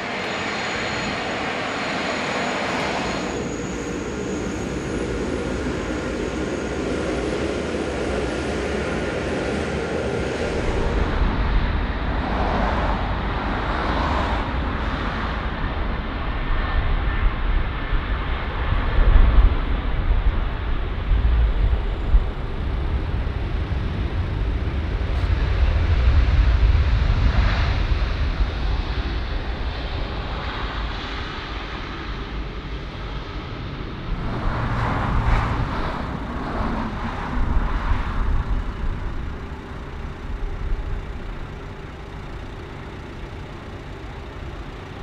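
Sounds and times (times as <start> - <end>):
jet engine noise: 0.0 - 45.0.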